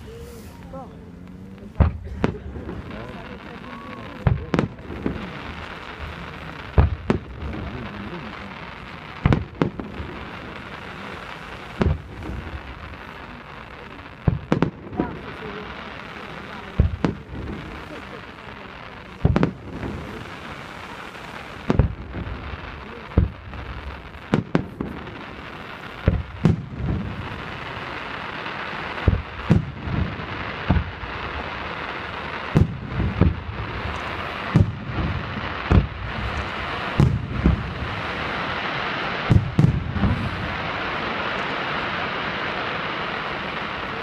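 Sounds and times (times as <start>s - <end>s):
firework crackling: 0.0s - 44.0s.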